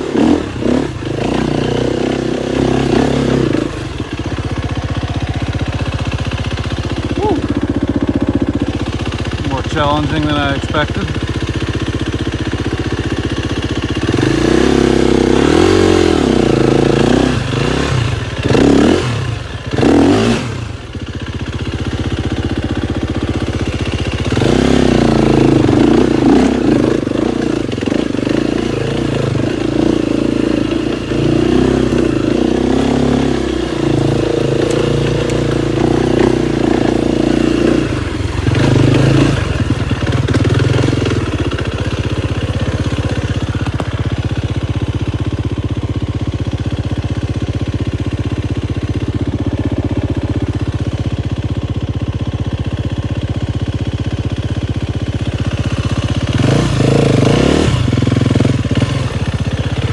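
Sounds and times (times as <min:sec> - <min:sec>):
dirt bike engine: 0:00.0 - 0:59.9.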